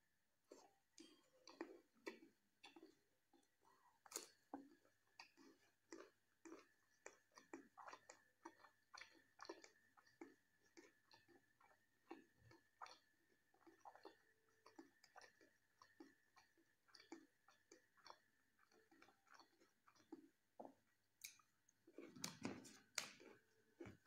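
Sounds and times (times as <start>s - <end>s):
person chewing soft food: 0.4s - 24.0s.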